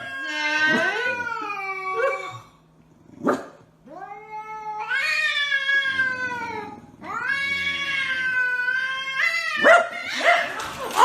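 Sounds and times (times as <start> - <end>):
cat yowling: 0.0 - 2.5, 3.9 - 11.0.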